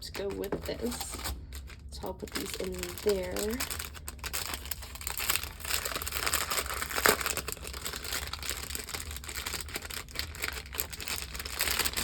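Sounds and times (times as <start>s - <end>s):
paper envelopes crinkling: 0.0s - 12.0s.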